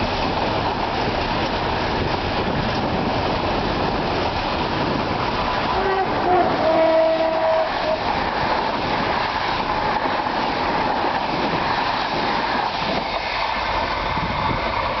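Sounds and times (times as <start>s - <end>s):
train wheels clattering on track: 0.0s - 15.0s.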